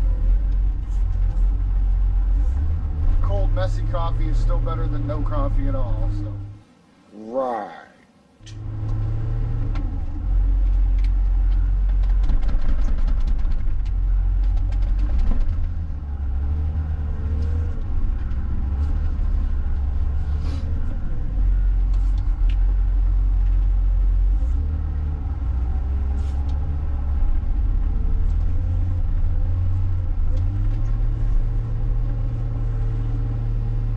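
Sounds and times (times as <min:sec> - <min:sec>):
diesel engine running: 0:00.0 - 0:06.7, 0:08.4 - 0:33.9.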